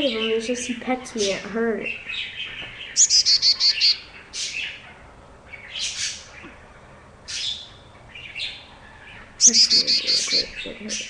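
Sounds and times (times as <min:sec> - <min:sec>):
chickadee chirping: 0:00.0 - 0:11.0
raspy high bird calls: 0:01.2 - 0:11.0.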